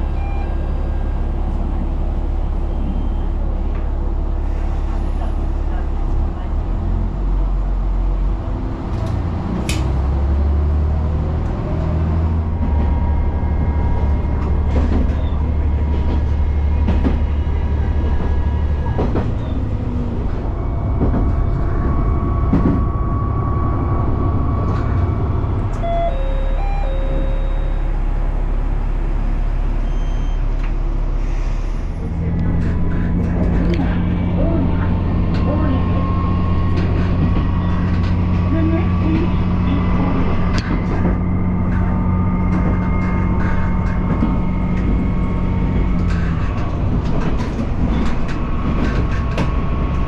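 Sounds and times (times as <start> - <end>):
railcar engine and wheel rumble: 0.0 - 50.0.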